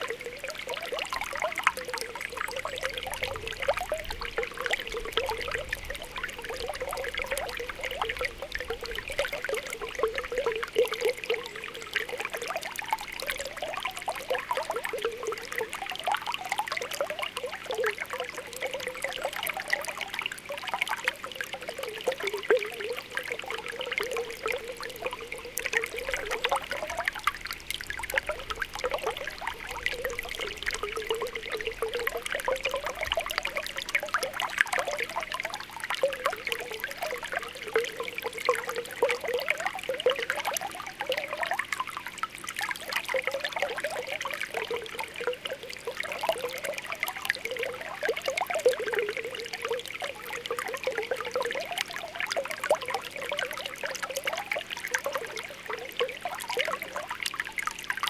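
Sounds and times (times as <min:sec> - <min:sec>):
spring water bubbling: 0:00.0 - 0:58.0
water trickling and gurgling: 0:00.0 - 0:58.0.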